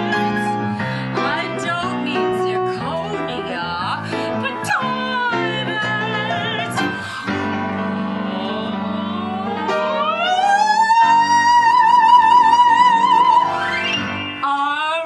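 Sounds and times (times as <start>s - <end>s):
piano chords: 0.0s - 15.0s
soprano singing with vibrato: 0.0s - 15.0s.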